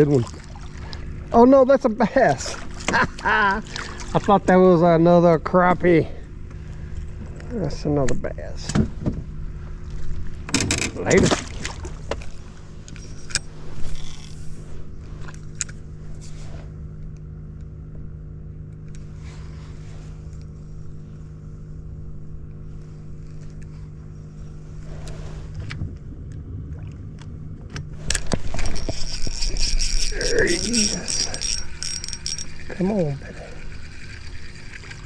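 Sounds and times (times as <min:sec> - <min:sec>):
motor humming: 0:00.0 - 0:35.0.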